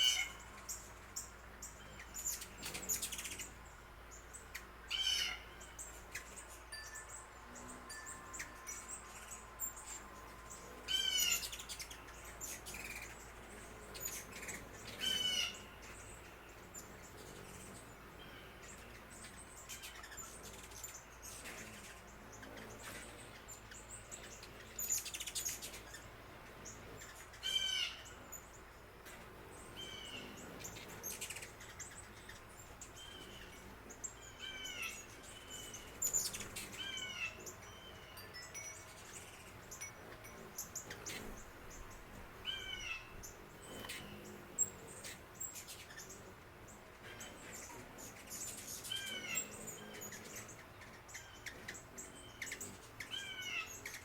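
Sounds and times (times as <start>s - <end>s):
faint background hiss: 0.0s - 54.0s
songbirds chirping: 0.0s - 54.0s.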